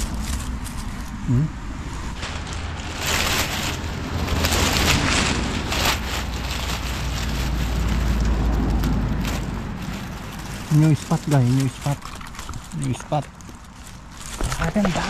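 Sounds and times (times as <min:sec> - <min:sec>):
low rumble: 0:00.0 - 0:12.7
twigs and leaves rustling: 0:00.0 - 0:15.0.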